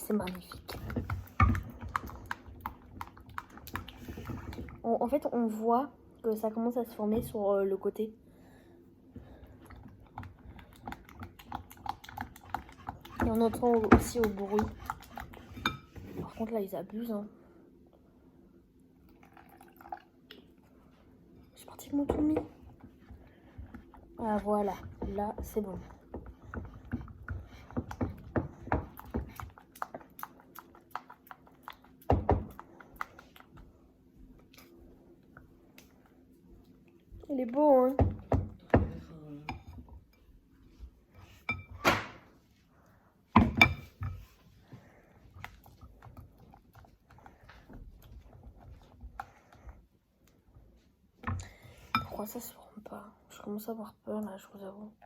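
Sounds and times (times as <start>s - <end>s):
slime being stirred in a bowl: 0.0s - 5.5s, 9.2s - 16.8s, 19.2s - 42.7s, 43.4s - 52.6s.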